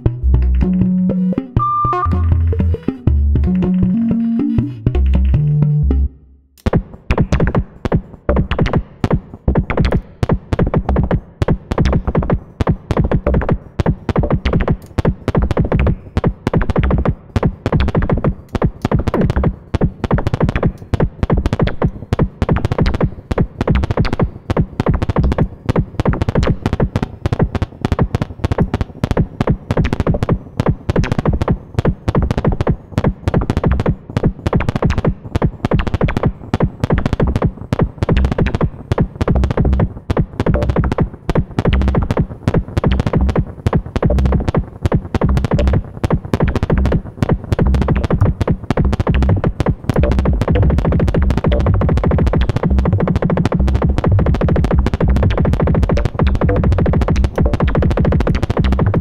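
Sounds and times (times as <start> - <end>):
synthesizer sequenced notes: 0.0 - 59.0.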